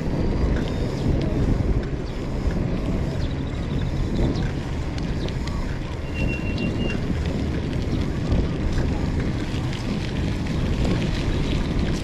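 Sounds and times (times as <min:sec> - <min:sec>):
vehicle rumble: 0:00.0 - 0:12.0
wind buffeting microphone: 0:00.0 - 0:12.0.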